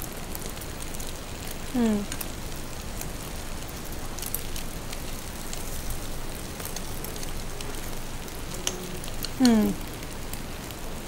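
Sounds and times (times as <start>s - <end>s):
egg sizzling in frying pan: 0.0s - 11.0s.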